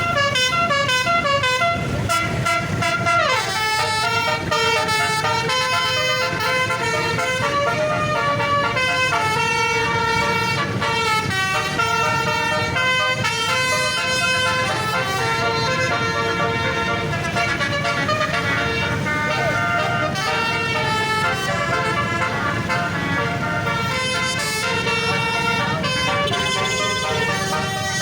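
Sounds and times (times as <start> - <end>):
musical air horn melody: 0.0 - 28.0.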